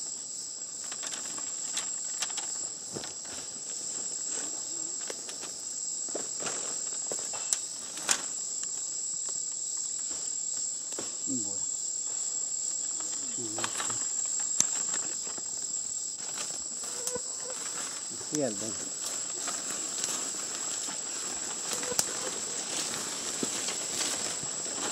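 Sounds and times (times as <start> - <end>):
insect chorus drone: 0.0 - 24.9.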